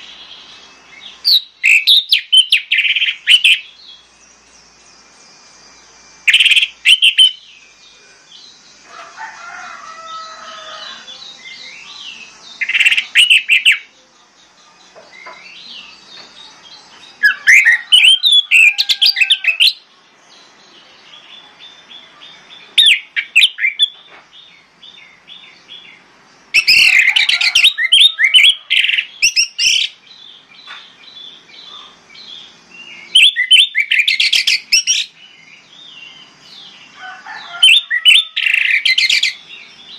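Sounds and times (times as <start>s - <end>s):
soft bird twittering: 0.0s - 39.9s.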